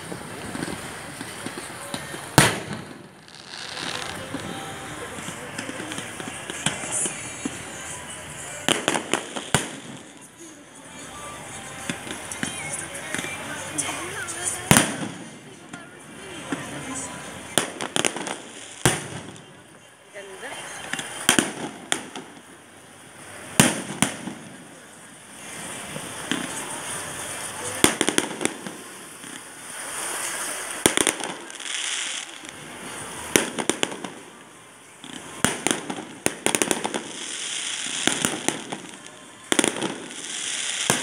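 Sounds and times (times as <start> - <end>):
fireworks bangs: 0.0 - 19.8, 20.7 - 41.0
fireworks crackling and hiss: 0.0 - 41.0.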